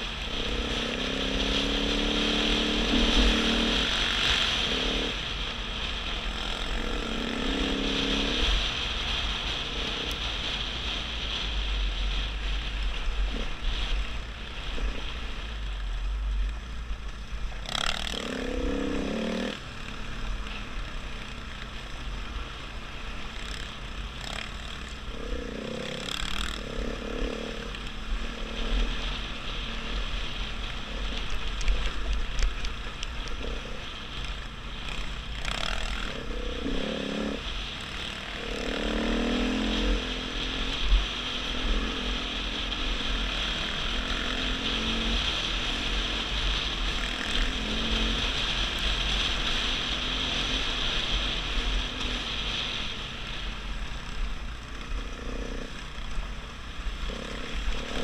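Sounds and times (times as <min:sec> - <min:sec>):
dirt bike engine revving: 0:00.0 - 0:11.4, 0:16.4 - 0:58.0
wind rumble on microphone: 0:00.0 - 0:58.0.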